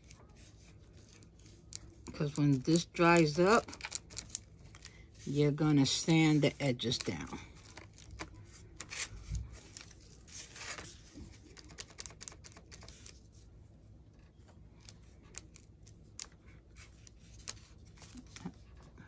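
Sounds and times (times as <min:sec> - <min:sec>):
paper crackling and rustling: 0:00.0 - 0:13.5, 0:14.1 - 0:19.0.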